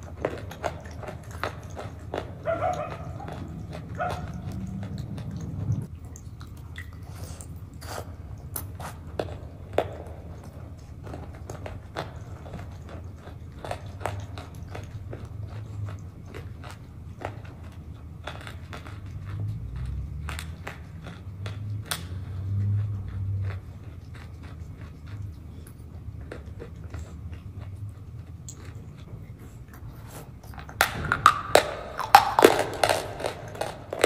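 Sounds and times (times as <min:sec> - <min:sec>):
close-up chewing: 0:00.0 - 0:34.0
sharp crunches and clicks: 0:00.0 - 0:34.0.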